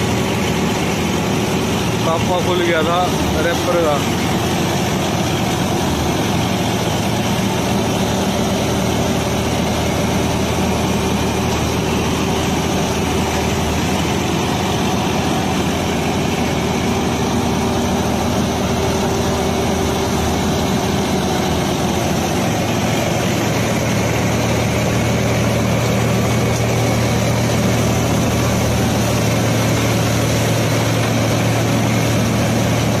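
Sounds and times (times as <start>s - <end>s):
reaper belts and rotors running: 0.0s - 33.0s
tractor engine under load: 0.0s - 33.0s.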